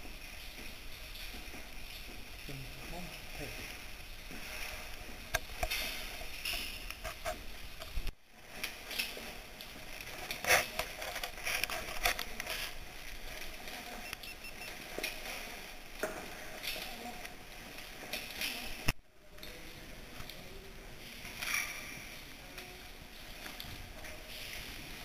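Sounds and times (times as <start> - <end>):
rope gear clicking and clinking: 0.0 - 20.4.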